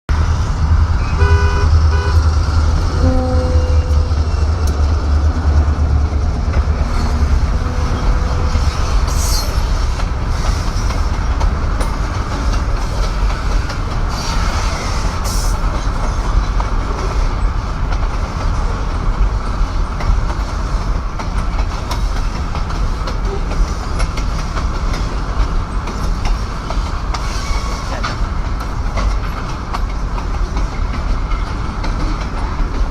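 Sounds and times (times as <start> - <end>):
low train rumble: 0.1 - 32.9
wheels clicking over rail joints: 2.3 - 32.9.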